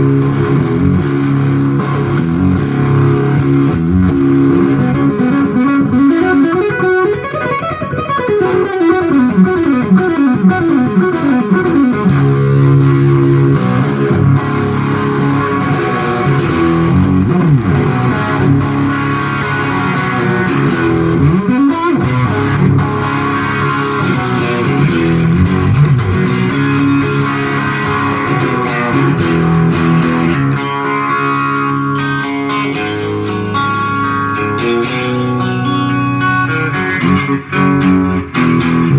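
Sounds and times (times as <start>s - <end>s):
fuzz electric guitar playing: 0.0s - 38.9s.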